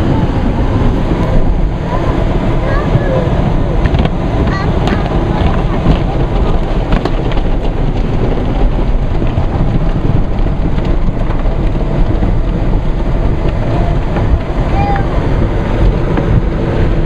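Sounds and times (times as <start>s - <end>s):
water spray drumming on car: 0.0s - 17.0s.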